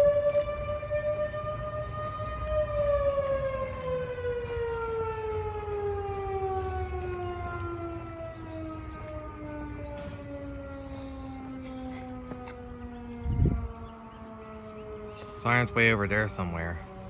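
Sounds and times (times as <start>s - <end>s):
mechanical siren winding down: 0.0s - 17.0s.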